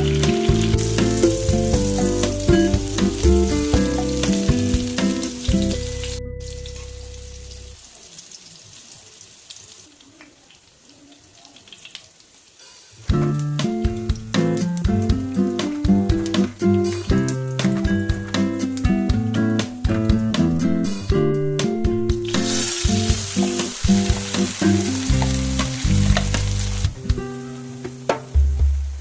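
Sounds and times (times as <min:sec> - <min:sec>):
background music: 0:00.0 - 0:07.8, 0:13.1 - 0:29.0
food sizzling in hot oil: 0:00.0 - 0:18.8, 0:22.2 - 0:28.1.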